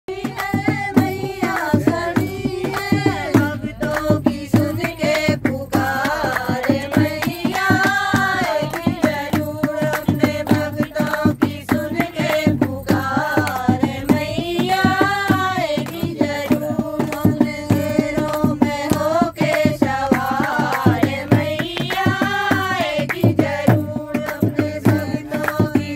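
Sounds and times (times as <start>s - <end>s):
hand drum beating: 0.1s - 25.9s
women singing devotional song: 0.1s - 25.9s.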